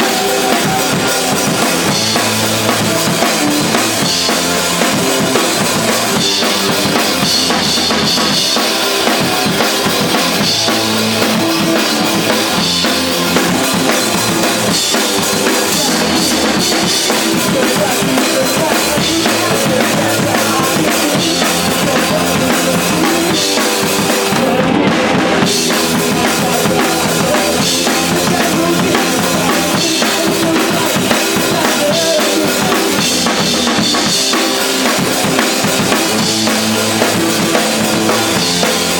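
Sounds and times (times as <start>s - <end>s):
band playing instrumental: 0.0s - 38.9s
drum kit with bass drum and snare: 0.0s - 38.9s.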